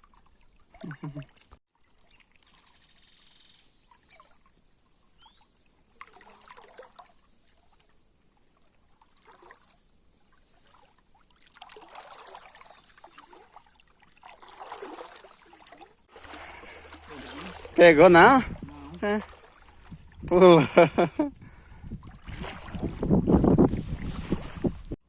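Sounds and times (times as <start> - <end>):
river water sloshing and trickling: 0.0 - 25.0.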